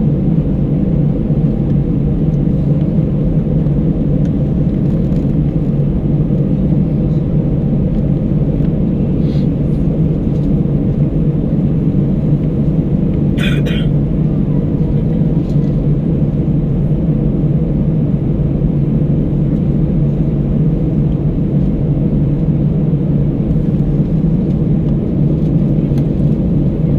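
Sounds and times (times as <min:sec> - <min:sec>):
airliner cabin engine rumble: 0:00.0 - 0:26.9.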